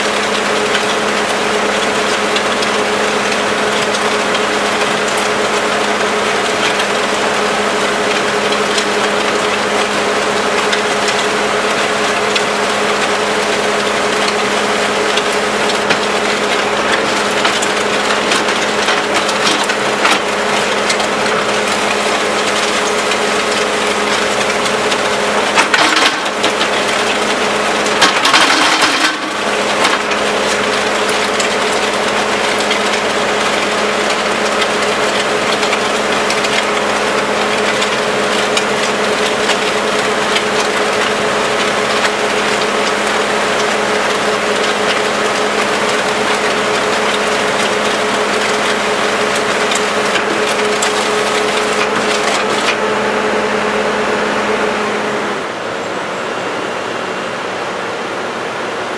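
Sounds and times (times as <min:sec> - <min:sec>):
auger grinding rattling clatter: 0:00.0 - 0:55.2
engine and hydraulics drone: 0:00.0 - 0:58.9.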